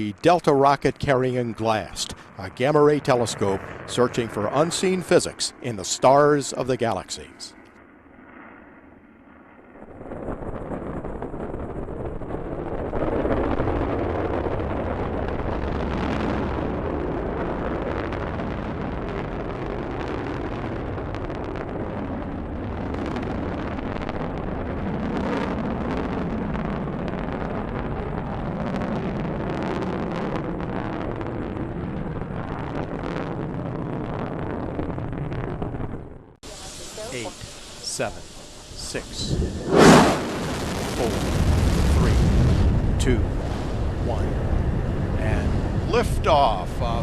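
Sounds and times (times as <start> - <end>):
rocket launch rumble with crackling: 0.0 - 47.0.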